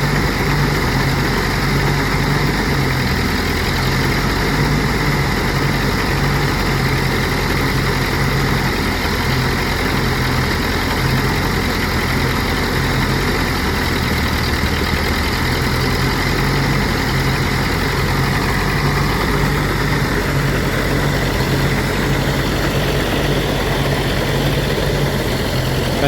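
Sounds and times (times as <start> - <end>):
threshing machine engine running: 0.0 - 26.0.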